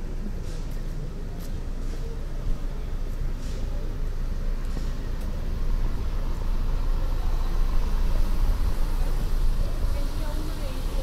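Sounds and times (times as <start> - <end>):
street noise: 0.0 - 11.0
vehicle engine rumble: 0.0 - 11.0.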